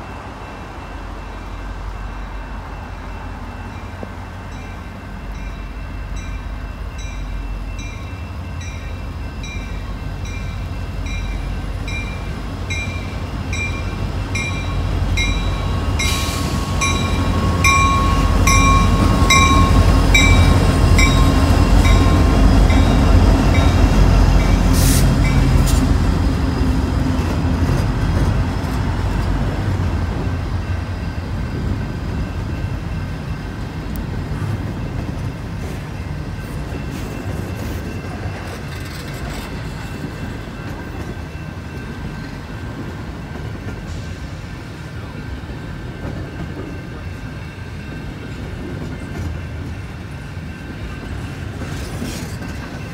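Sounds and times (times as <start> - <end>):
locomotive bell ringing: 0.0 - 25.6, 30.2 - 52.9
diesel locomotives passing: 0.0 - 52.9
freight cars rolling on rails: 0.0 - 52.9.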